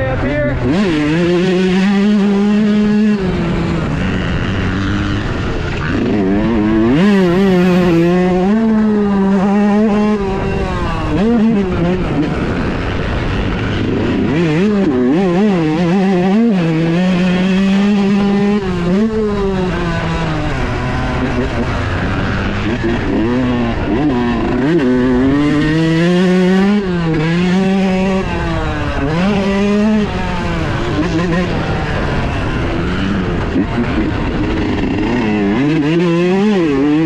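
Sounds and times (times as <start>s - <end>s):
two-stroke motorcycle engine revving: 0.0s - 37.0s.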